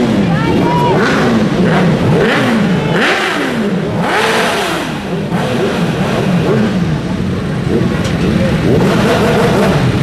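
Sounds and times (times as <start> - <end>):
racing motorcycles passing: 0.0 - 10.0.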